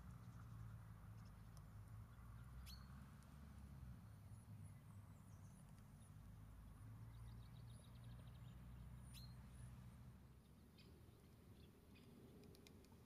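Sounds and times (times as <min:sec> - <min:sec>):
faint outdoor rumble: 0:00.0 - 0:13.0.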